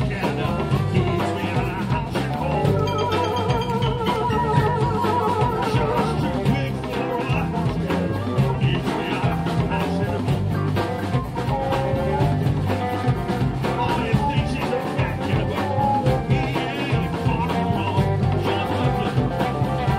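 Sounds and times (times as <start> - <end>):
bass: 0.0 - 19.9
drums and percussion: 0.0 - 19.9
electric guitars: 0.0 - 19.9.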